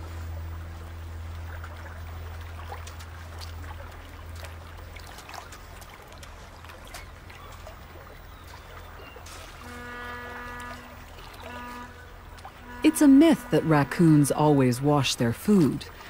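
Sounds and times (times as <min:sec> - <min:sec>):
low steady hum: 0:00.0 - 0:16.0
shallow water trickling and splashing: 0:00.0 - 0:16.0.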